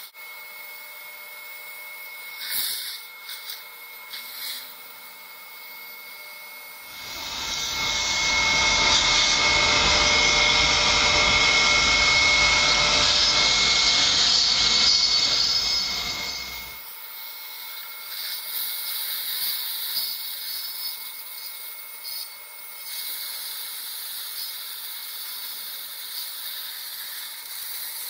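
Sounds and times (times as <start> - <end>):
dental equipment rushing hiss: 2.0 - 28.0.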